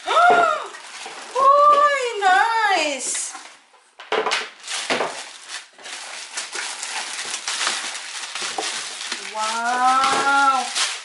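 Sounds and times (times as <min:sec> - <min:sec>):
plastic bag crinkling: 0:00.0 - 0:02.6, 0:04.4 - 0:11.0.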